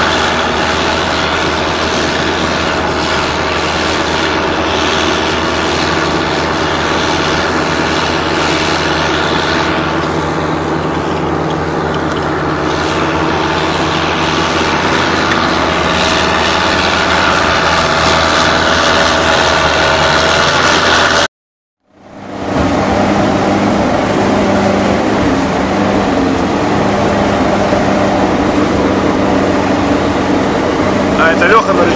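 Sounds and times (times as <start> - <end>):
tracked vehicle engine droning: 0.0 - 31.9.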